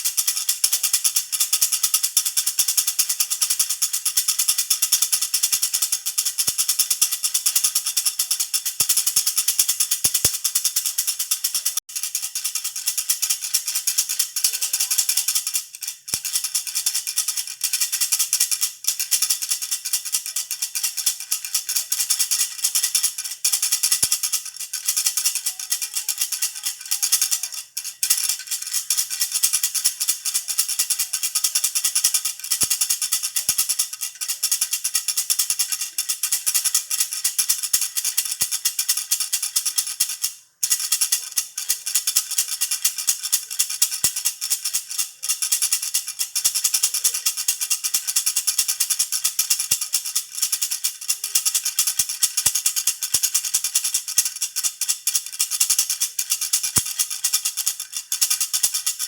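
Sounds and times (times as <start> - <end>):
baby rattle shaken: 0.0 - 59.0.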